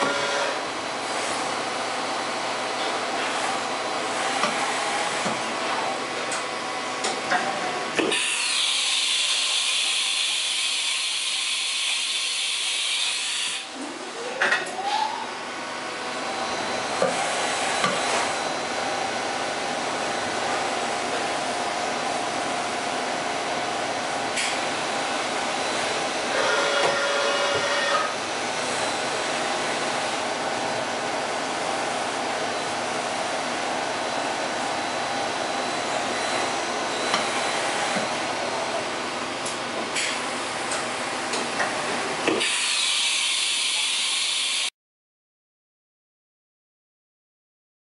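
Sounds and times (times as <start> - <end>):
machine spindle whine: 0.0 - 44.7.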